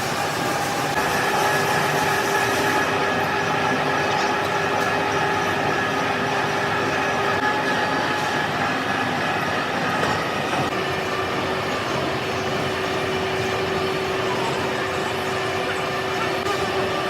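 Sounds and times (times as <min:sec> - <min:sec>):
machine tool clatter and whine: 0:00.0 - 0:17.0.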